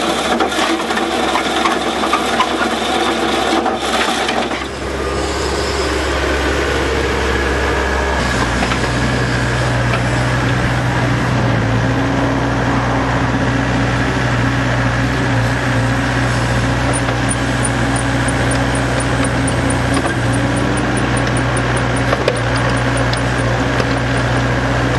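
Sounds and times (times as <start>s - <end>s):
excavator diesel engine under load: 0.0s - 24.9s.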